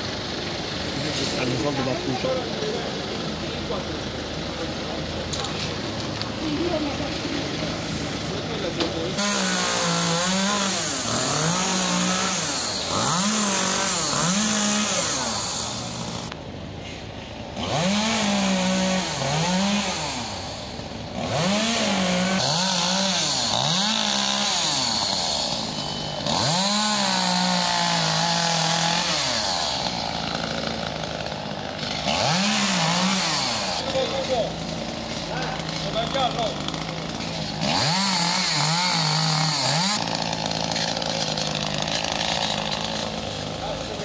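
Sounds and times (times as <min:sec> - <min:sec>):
chainsaw revving: 0:00.0 - 0:16.4, 0:17.5 - 0:44.0.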